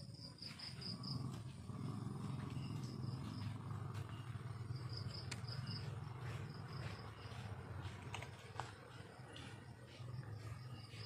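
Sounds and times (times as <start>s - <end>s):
crickets chirping: 0.0s - 11.0s
steady low hum: 0.0s - 11.0s.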